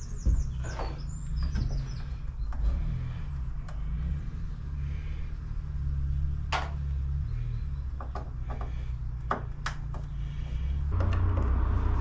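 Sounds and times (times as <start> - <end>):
steady low rumble: 0.0 - 8.0, 8.6 - 12.0.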